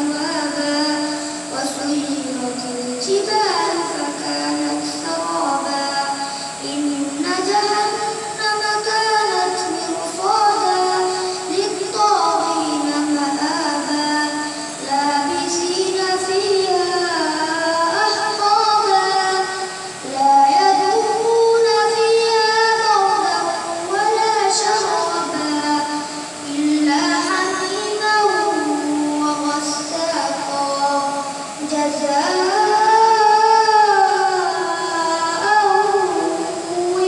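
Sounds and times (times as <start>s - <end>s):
boy chanting into microphone: 0.0s - 37.0s.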